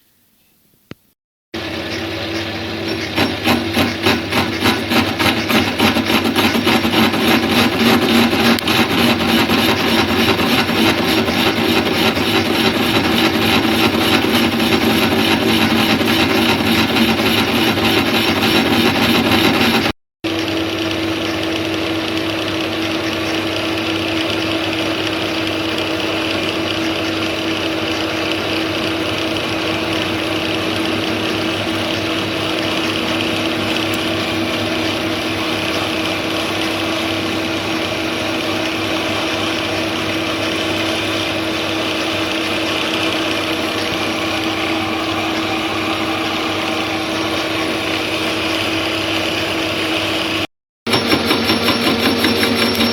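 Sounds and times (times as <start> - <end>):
electric machine-tool motor running: 2.6 - 52.9.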